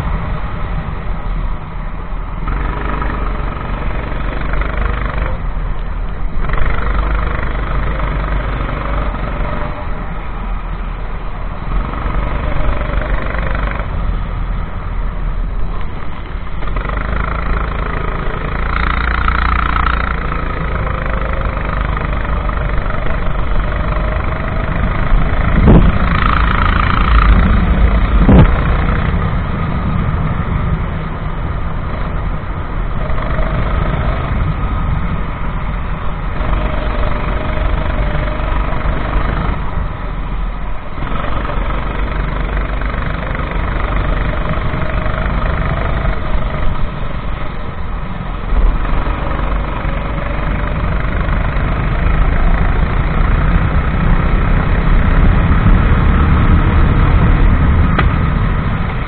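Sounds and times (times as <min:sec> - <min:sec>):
racing kart engine revving: 0:02.3 - 0:59.0.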